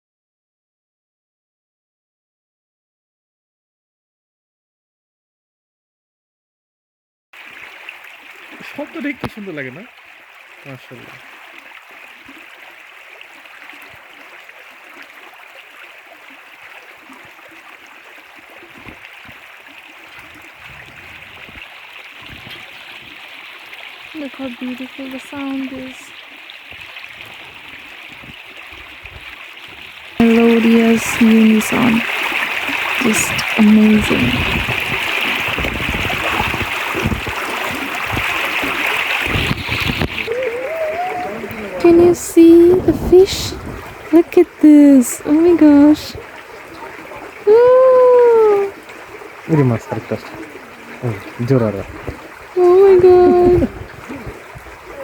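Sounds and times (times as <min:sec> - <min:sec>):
rushing water: 0:07.4 - 0:55.0.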